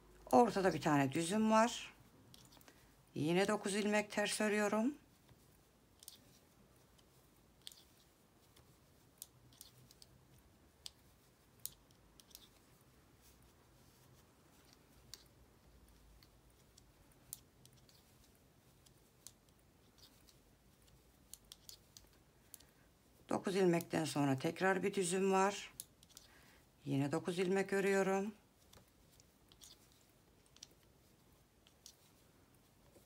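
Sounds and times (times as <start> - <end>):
knitting needles clicking faintly: 0.1 - 26.6, 27.2 - 33.0.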